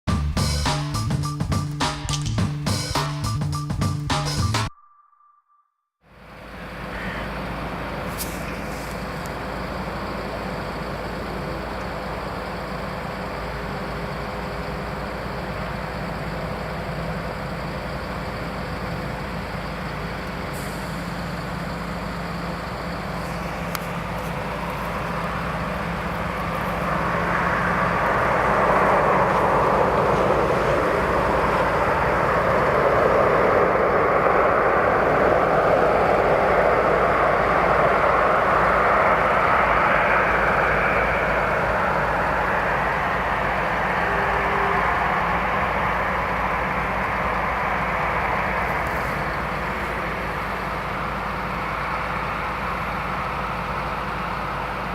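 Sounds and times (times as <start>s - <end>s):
jet engines rushing: 6.2s - 54.9s.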